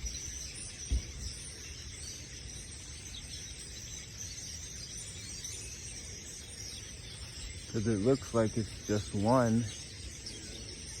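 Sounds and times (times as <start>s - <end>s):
distant flock of birds chattering: 0.0s - 11.0s.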